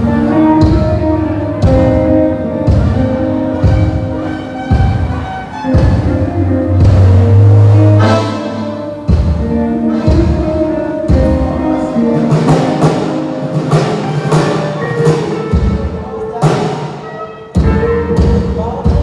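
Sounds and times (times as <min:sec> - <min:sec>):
drum hits: 0:00.0 - 0:17.0
live band over pa system: 0:00.0 - 0:19.0.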